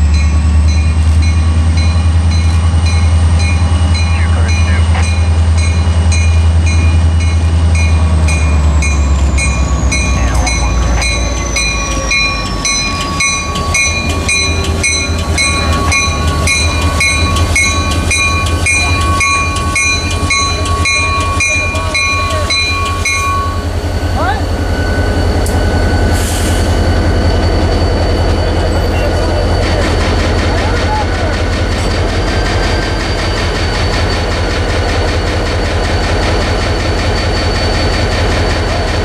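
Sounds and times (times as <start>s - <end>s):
diesel locomotive rumbling: 0.0s - 39.0s
passenger cars clicking on rails: 0.0s - 39.0s.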